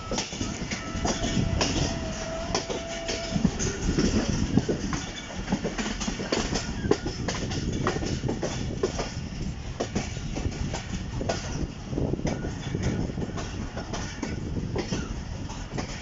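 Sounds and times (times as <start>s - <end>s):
low train rumble: 0.0s - 16.0s
train wheels clattering over joints: 0.0s - 16.0s.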